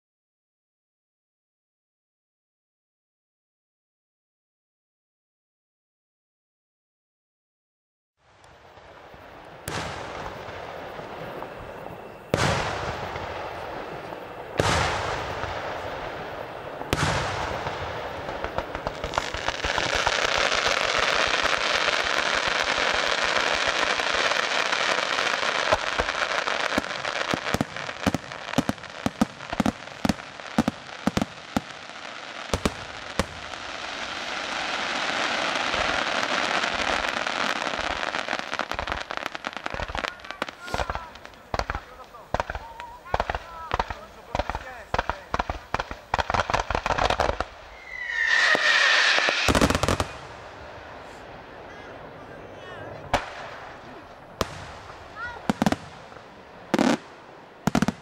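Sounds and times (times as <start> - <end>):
fireworks crackling: 8.2 - 58.0
sharp firework cracks: 8.4 - 52.2, 53.0 - 58.0
firework bangs: 8.5 - 58.0.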